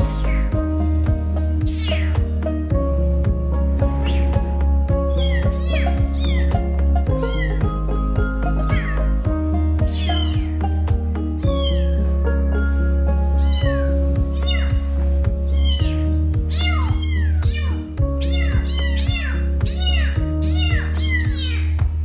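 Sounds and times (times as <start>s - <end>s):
kittens meowing: 0.0s - 2.8s, 3.8s - 12.0s, 13.3s - 21.9s
background music with bass: 0.0s - 22.0s.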